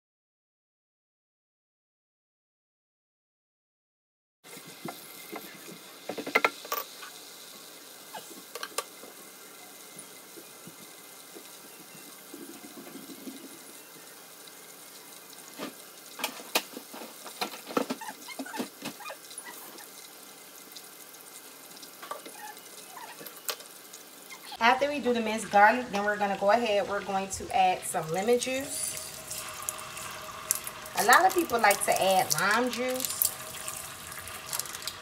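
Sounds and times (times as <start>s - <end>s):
butter and garlic sizzling in pan: 4.5s - 35.0s.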